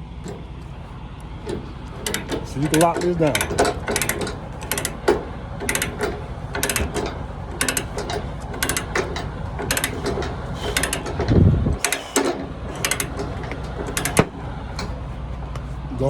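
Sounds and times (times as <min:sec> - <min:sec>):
ratchet pawl clicking: 0:00.0 - 0:15.2.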